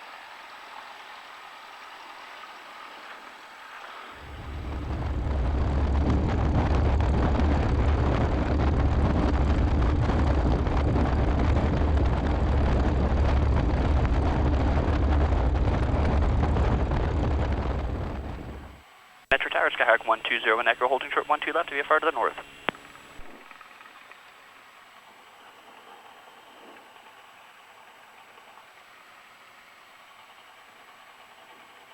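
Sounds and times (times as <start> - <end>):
aircraft engine and propeller: 0.3 - 18.7, 22.7 - 31.9.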